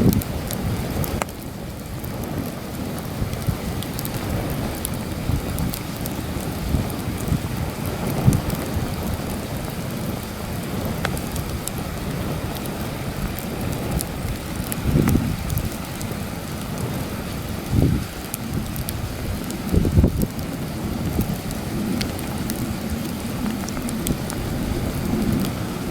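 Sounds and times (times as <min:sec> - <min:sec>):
campfire crackling and popping: 0:00.0 - 0:25.9
wind buffeting microphone: 0:00.0 - 0:25.9.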